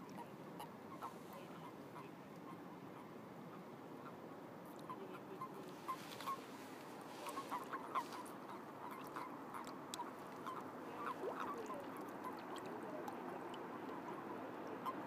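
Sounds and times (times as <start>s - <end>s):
toads calling: 0.2s - 15.0s.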